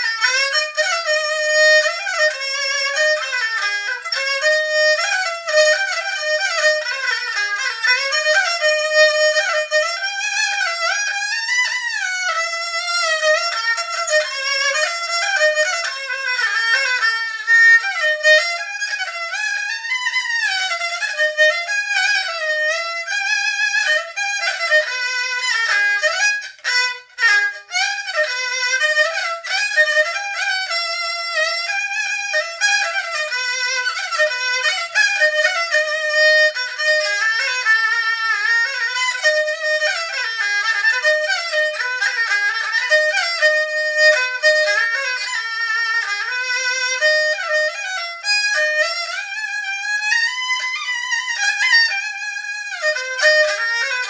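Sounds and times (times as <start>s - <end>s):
two-string bowed fiddle melody: 0.0s - 54.0s.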